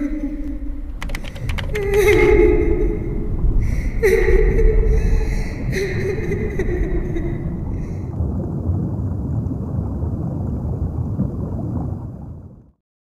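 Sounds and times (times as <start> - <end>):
low rumbling noise: 0.0 - 12.8.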